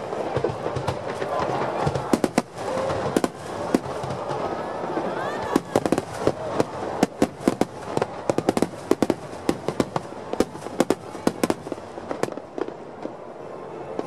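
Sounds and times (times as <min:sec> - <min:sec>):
fireworks cracking and banging: 0:00.0 - 0:14.0.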